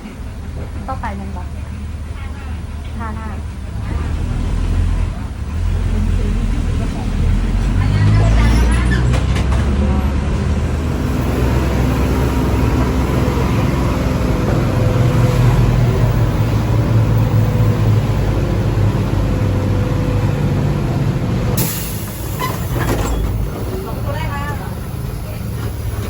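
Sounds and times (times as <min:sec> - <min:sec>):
vehicle rumble from inside: 0:00.0 - 0:26.0.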